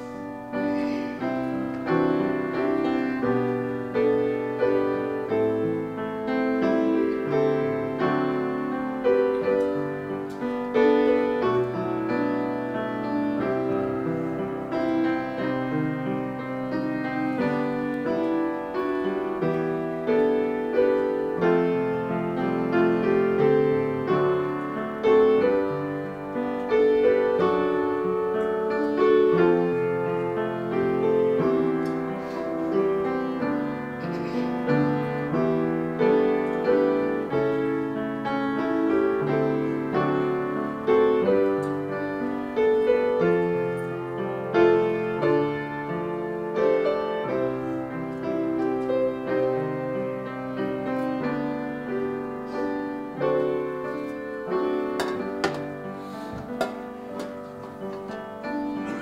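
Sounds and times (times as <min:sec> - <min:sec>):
grand piano: 0:00.0 - 0:59.0.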